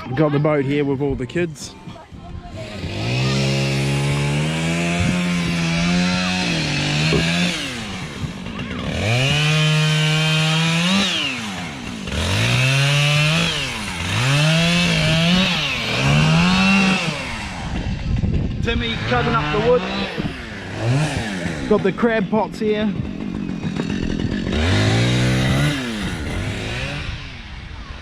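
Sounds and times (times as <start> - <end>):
chainsaw cutting wood: 2.5 - 28.0.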